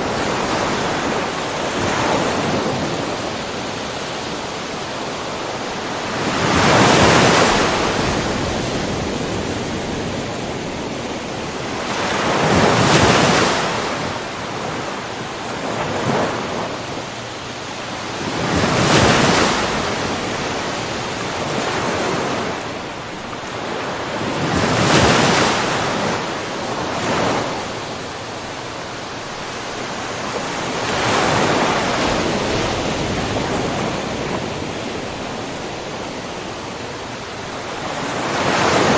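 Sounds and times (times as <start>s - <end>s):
ocean waves surging: 0.0s - 38.9s
steady hiss of surf: 0.0s - 38.9s.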